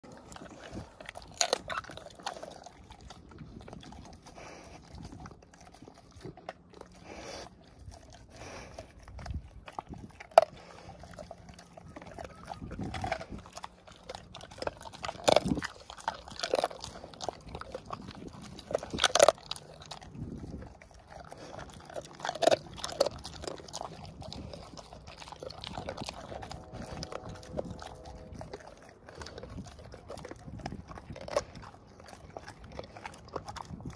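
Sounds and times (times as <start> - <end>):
dog crunching bones: 0.0 - 33.9.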